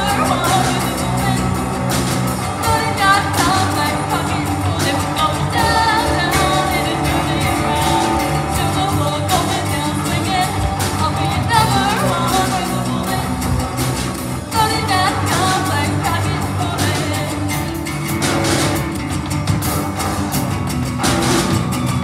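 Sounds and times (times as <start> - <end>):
person singing: 0.0 - 18.2
drums steady beat: 0.0 - 22.0
live band playing pop song: 0.0 - 22.0.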